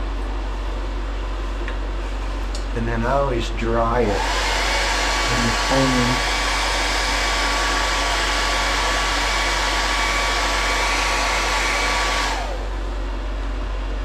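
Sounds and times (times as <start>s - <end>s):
hot-air blower running: 0.0s - 14.0s.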